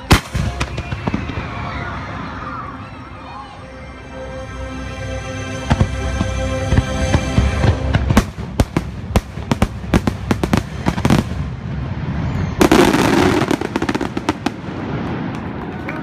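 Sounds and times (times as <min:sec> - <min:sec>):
fireworks bangs and crackles: 0:00.0 - 0:02.8, 0:05.7 - 0:16.0.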